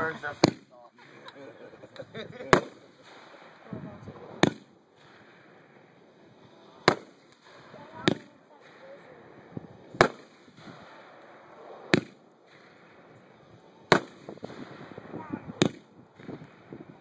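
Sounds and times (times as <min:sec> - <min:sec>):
firework crackling pops: 0:00.0 - 0:01.1, 0:01.9 - 0:17.0
firework bangs: 0:00.0 - 0:17.0.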